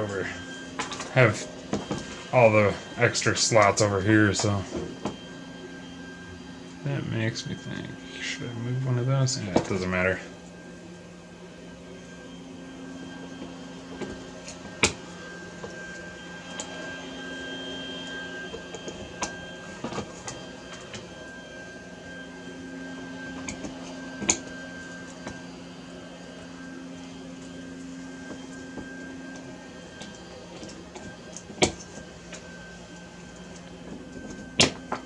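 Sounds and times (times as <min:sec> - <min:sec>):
steady background hum: 0:00.0 - 0:35.0.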